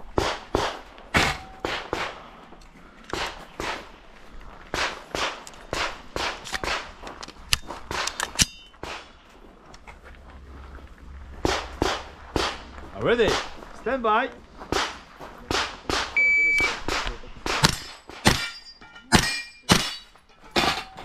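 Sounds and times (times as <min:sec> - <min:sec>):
footsteps on gravel and metal grating: 0:00.0 - 0:15.9, 0:16.7 - 0:21.0.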